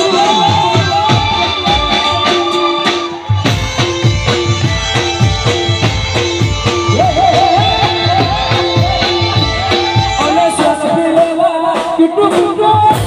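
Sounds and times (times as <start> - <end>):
sustained keyboard melody: 0.0 - 11.8
quick drum beat: 0.0 - 13.0.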